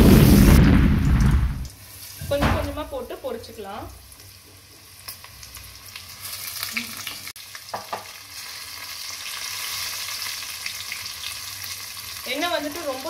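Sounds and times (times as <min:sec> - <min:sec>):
corn deep-frying in oil: 0:00.0 - 0:13.0.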